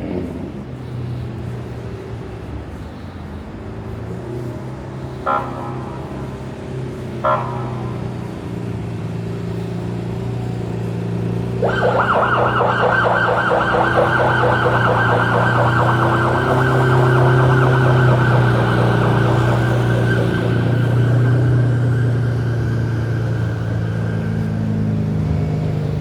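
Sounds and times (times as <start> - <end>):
traffic engine hum: 0.0 - 26.0
emergency siren yelp: 4.5 - 26.0.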